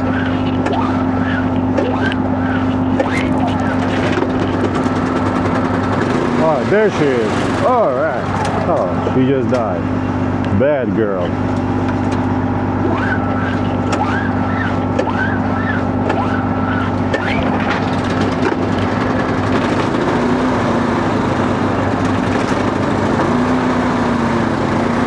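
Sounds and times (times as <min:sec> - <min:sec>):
portable generator engine running: 0:00.0 - 0:25.0.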